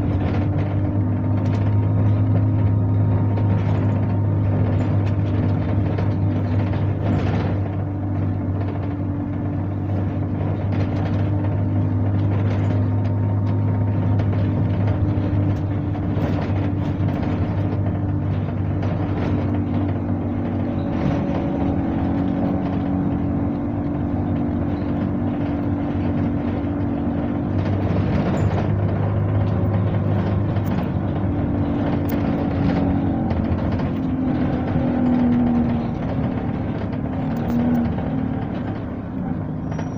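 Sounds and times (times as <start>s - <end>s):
bus diesel engine drone: 0.0s - 39.9s
knocks and rattles: 0.0s - 39.9s
road noise: 0.0s - 39.9s.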